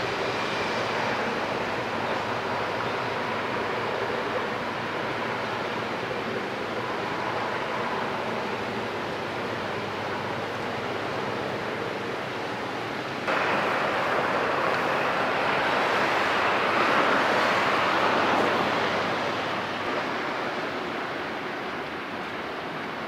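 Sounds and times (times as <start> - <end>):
sea waves: 0.0 - 23.0
wind: 0.0 - 23.0.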